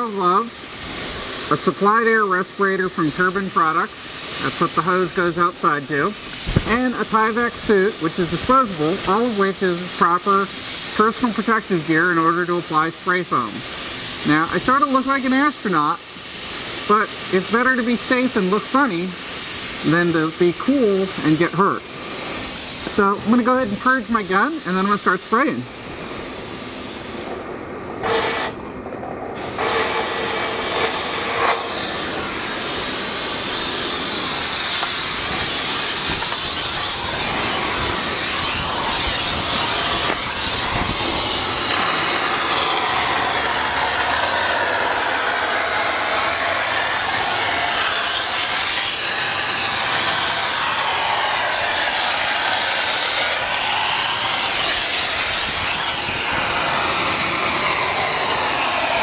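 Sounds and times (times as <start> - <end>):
spray foam gun hissing: 0.0 - 28.6, 29.4 - 59.0.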